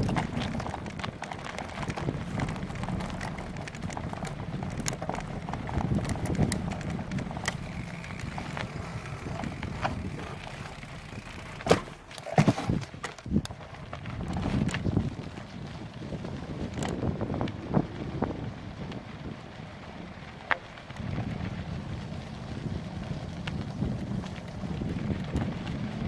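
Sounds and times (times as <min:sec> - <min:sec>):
bicycle rattling and clicking: 0:00.0 - 0:26.0
wind buffeting microphone: 0:00.0 - 0:26.0.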